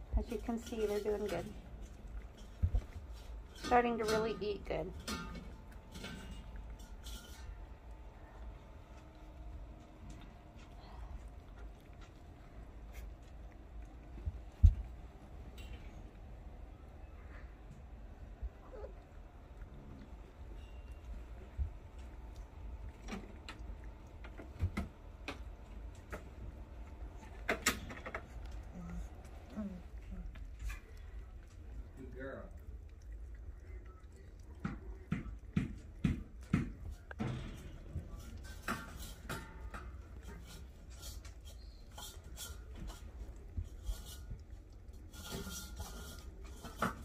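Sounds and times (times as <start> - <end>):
puppies clicking on food bowls: 0.0 - 16.8, 17.7 - 47.0
low steady rumble: 0.0 - 46.7.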